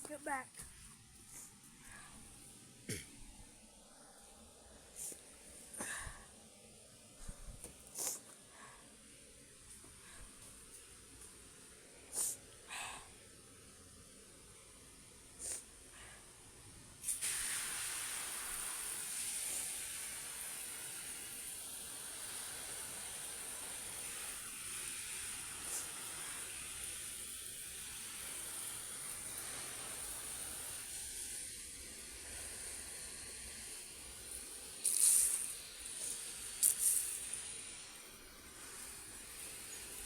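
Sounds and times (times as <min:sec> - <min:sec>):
garden hose spraying water: 0:00.0 - 0:40.0.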